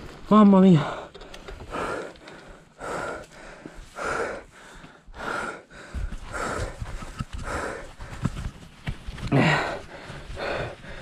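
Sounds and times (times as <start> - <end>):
person breathing hard: 0.8 - 8.6, 9.2 - 11.0.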